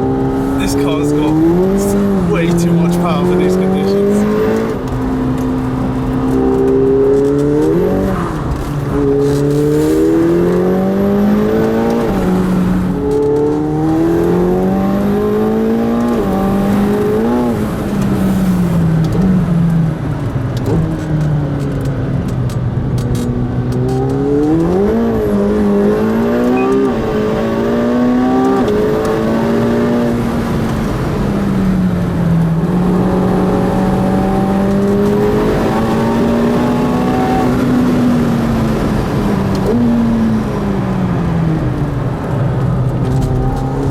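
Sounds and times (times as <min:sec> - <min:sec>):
car engine accelerating and shifting: 0:00.0 - 0:43.9.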